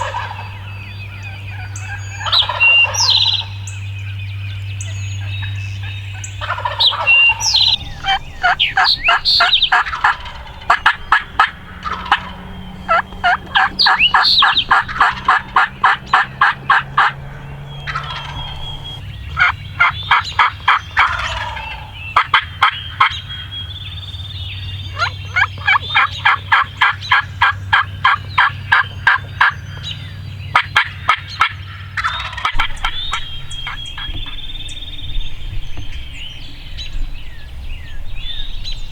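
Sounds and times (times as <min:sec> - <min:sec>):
wild turkey calling: 0:00.0 - 0:38.9.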